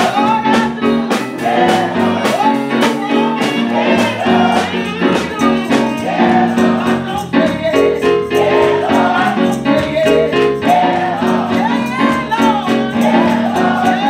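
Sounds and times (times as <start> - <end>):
keyboard accompaniment: 0.0 - 14.0
percussion beat: 0.0 - 14.0
women singing gospel song: 0.0 - 14.0.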